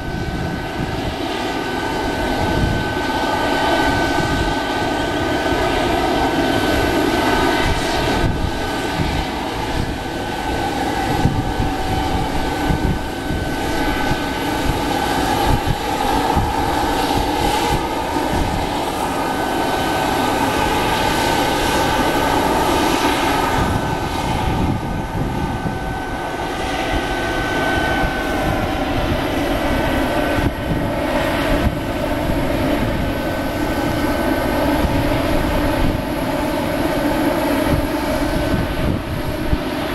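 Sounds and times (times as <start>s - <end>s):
jet engines whining: 0.0s - 39.9s
wind buffeting microphone: 0.0s - 39.9s.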